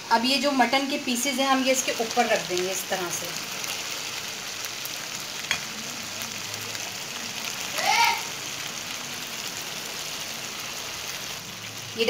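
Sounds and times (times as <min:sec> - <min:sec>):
liquid bubbling and sizzling in pan: 0:00.0 - 0:12.0.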